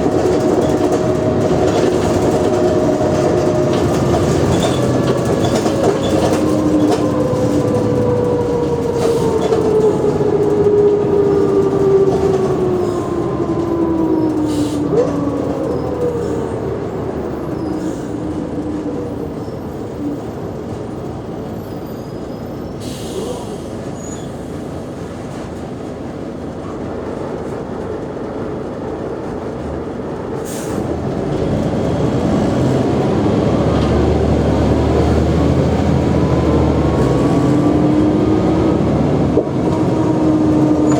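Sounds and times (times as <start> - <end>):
bus drivetrain whining: 0.0 - 40.9.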